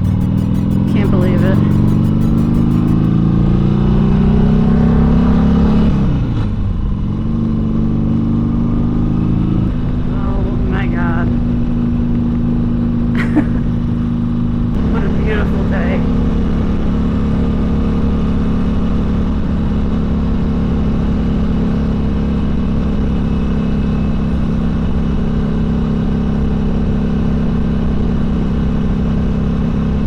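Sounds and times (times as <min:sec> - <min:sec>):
motorcycle engine cruising: 0:00.0 - 0:30.0.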